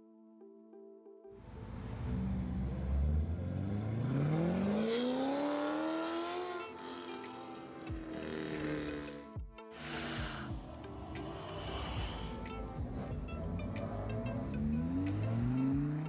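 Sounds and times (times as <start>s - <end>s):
car engine accelerating: 1.5s - 16.0s.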